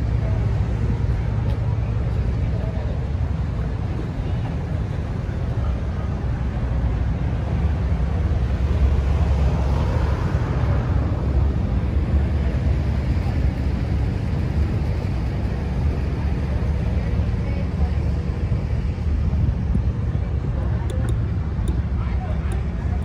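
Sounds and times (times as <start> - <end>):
faint voices: 0.0 - 8.2, 10.6 - 23.0
low outdoor rumble: 0.0 - 23.0.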